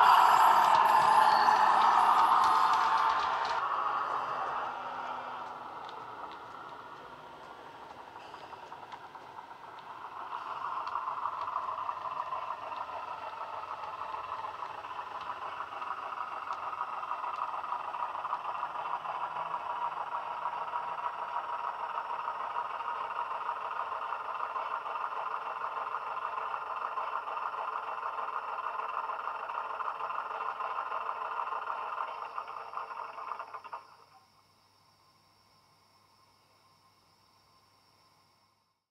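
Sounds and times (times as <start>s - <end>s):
model train diesel engine sound: 0.0s - 38.8s.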